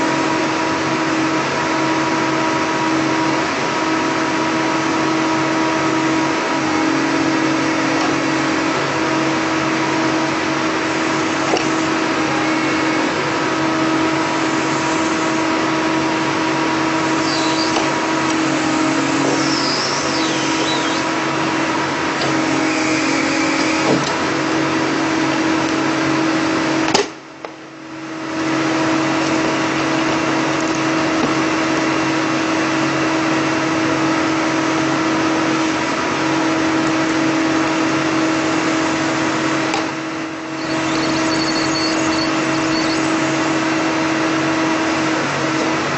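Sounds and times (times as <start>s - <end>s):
excavator diesel engine and hydraulics: 0.0s - 45.9s.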